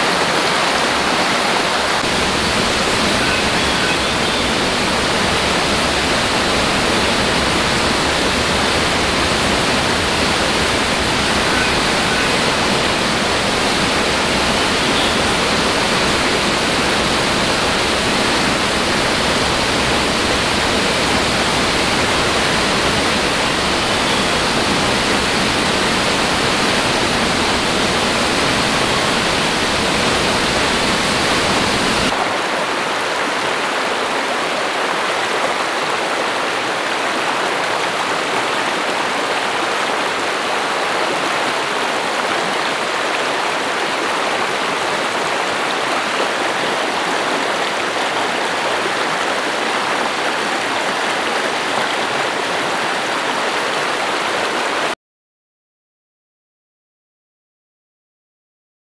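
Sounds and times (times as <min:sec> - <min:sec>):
stream water rushing over rocks: 0:00.0 - 0:55.0.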